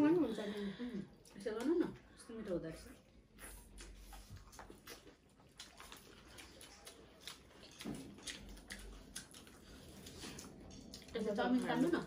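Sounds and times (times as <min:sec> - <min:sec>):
chewing and lip smacks: 0:01.0 - 0:12.0.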